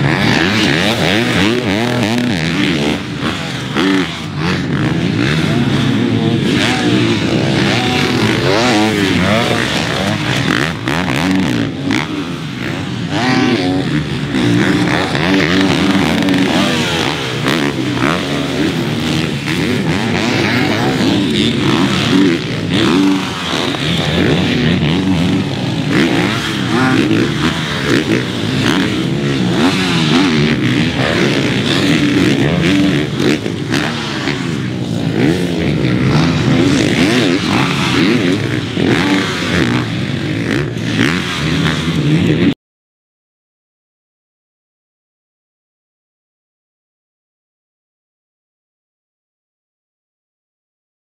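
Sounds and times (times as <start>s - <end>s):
motocross bike engine revving: 0.0s - 42.6s.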